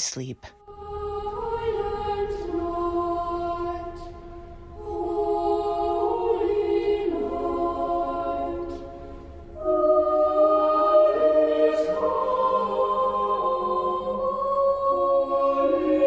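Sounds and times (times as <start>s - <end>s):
slow choral singing: 0.5s - 16.0s.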